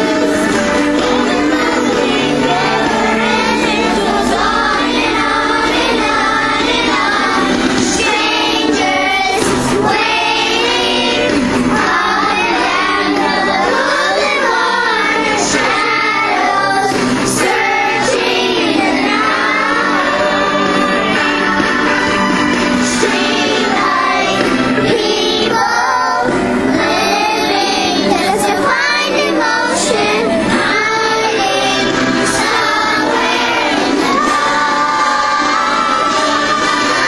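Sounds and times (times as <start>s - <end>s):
group singing with music: 0.0s - 37.0s.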